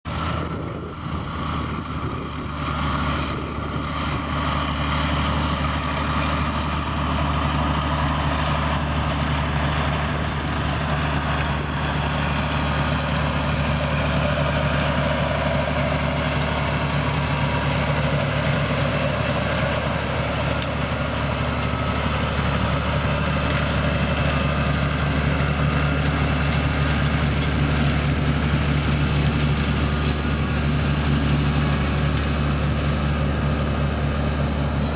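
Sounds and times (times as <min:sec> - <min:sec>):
tractor diesel engine droning: 0:00.0 - 0:34.9.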